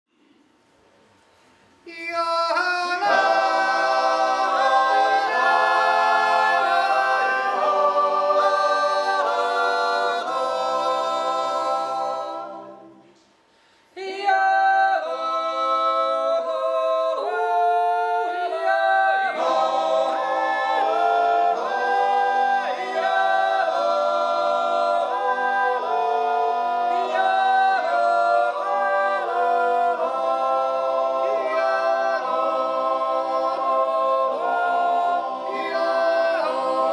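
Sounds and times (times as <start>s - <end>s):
men's choir yodeling: 2.0s - 13.0s, 14.0s - 36.9s.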